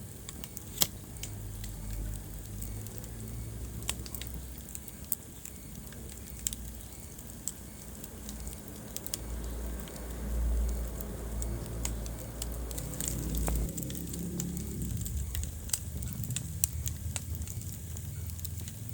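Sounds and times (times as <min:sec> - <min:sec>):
fire crackling and popping: 0:00.0 - 0:18.9
low rumble of flames: 0:00.0 - 0:18.9.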